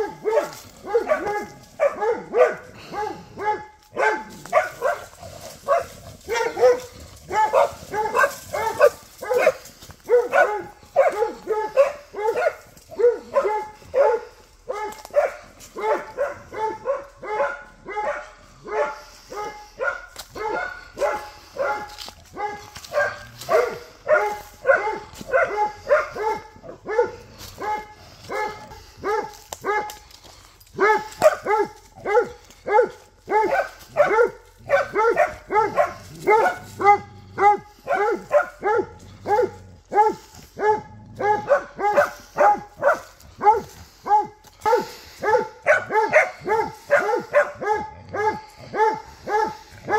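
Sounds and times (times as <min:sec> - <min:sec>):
dog barking: 0:00.0 - 0:49.9.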